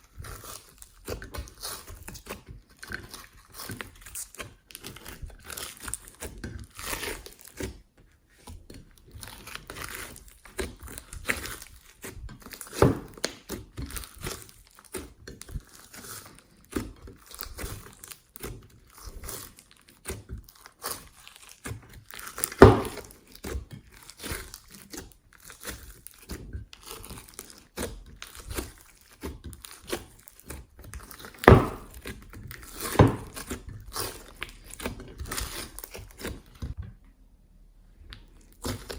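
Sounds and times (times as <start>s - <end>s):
sticky slime crackles: 0.0s - 36.8s, 37.9s - 38.9s.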